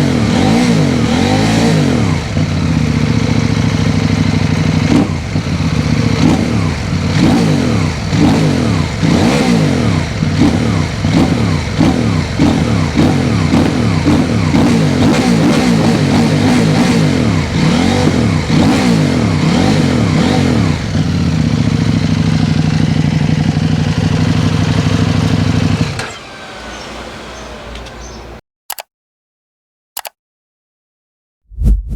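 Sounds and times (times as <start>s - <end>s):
motorcycle engine revving and idling: 0.0s - 28.3s.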